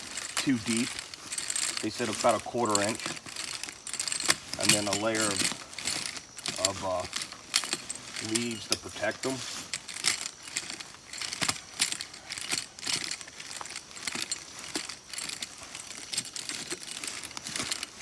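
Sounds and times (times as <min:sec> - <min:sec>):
dry leaves crackling and rustling: 0:00.0 - 0:18.0.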